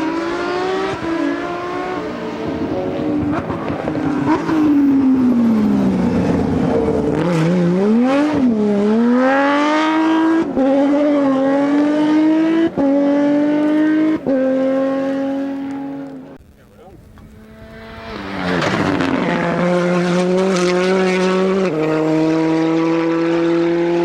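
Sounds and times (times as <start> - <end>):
rally car engine accelerating: 0.0 - 16.4, 17.1 - 24.0.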